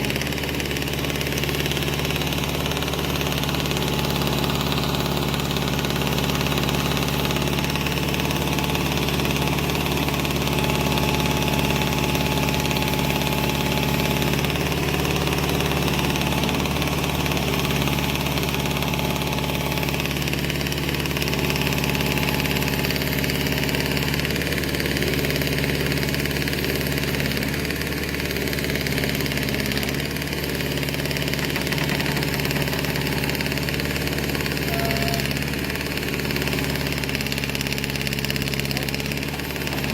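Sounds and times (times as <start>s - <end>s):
backhoe engine idling: 0.0s - 39.9s.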